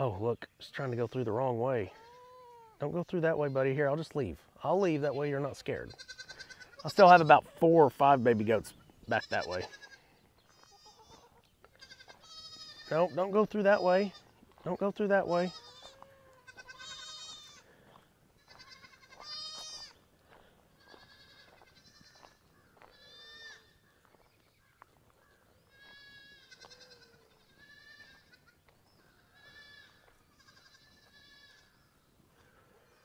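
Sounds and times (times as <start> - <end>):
goat kids bleating: 1.8 - 32.6.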